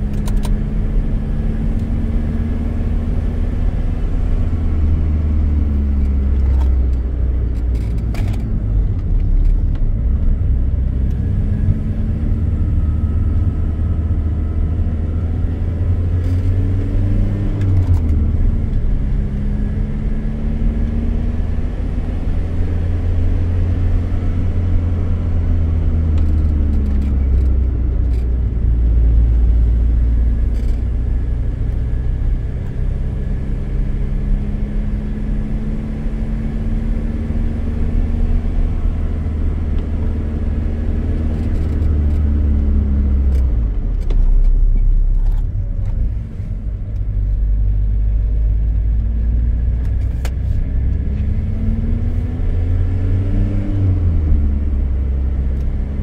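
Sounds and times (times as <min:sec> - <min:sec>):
diesel engine pulling uphill: 0:00.0 - 0:56.0.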